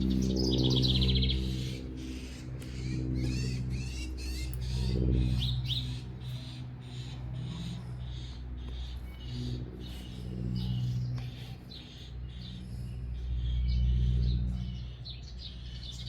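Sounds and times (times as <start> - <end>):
low droning hum: 0.0 - 16.0
songbirds chirping: 0.0 - 16.0.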